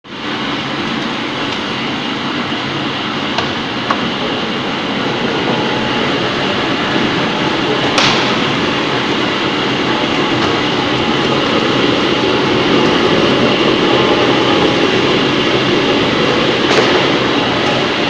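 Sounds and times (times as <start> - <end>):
washer churning rumble: 0.0 - 18.0.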